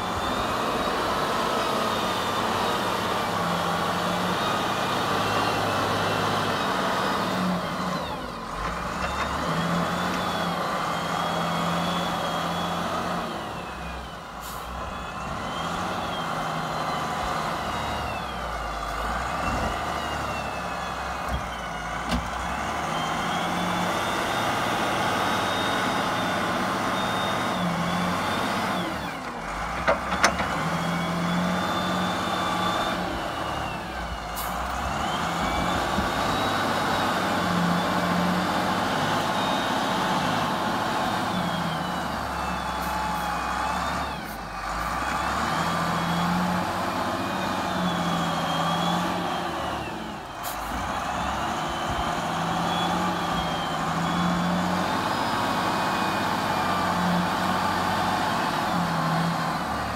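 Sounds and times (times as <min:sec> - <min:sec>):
diesel engine working hard: 0:00.0 - 0:59.9.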